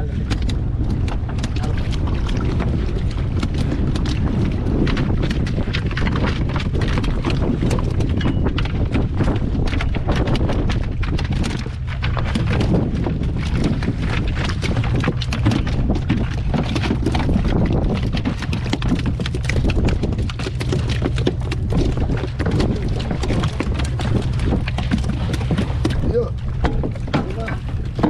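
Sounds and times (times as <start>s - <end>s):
fish thumping on boat floor: 0.0s - 28.0s
low rumble: 0.0s - 28.0s
water sloshing against boat: 0.0s - 28.0s
wind buffeting microphone: 0.0s - 28.0s.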